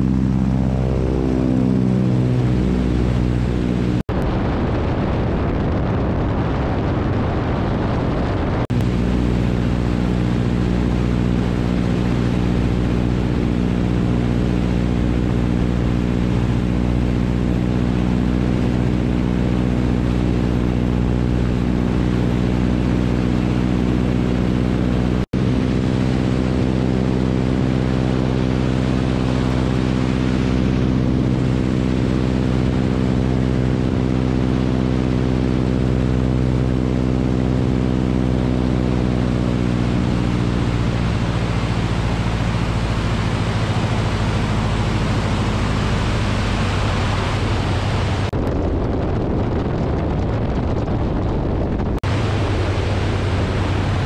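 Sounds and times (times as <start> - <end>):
plane engine and propeller: 0.0 - 54.0.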